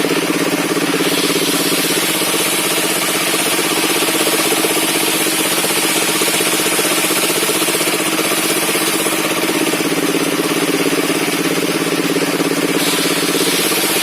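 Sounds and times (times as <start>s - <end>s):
sawmill engine pulsing: 0.0s - 14.0s.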